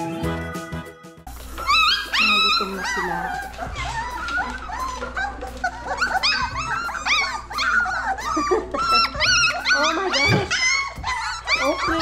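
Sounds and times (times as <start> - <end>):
puppies whining and yipping: 1.3 - 12.0.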